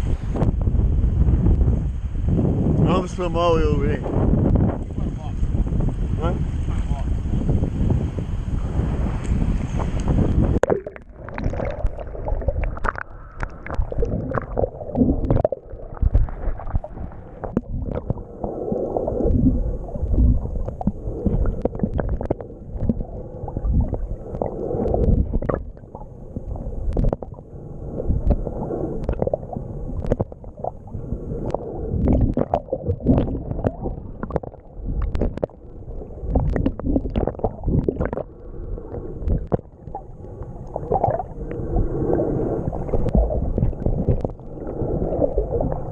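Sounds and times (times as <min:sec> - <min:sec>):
muffled rushing water: 0:00.0 - 0:45.9.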